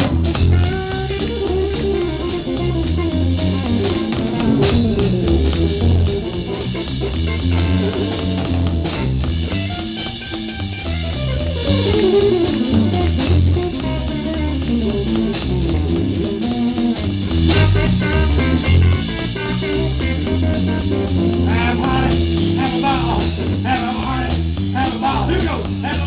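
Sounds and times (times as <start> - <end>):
drum kit steady beat: 0.0 - 26.0
electric guitar melodic runs: 0.0 - 26.0.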